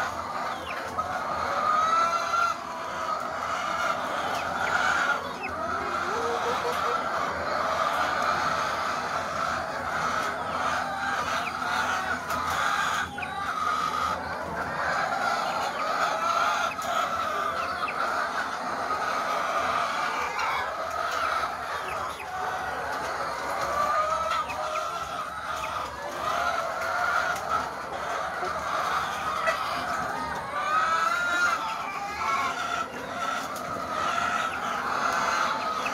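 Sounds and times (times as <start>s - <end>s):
hens clucking: 0.0s - 35.9s.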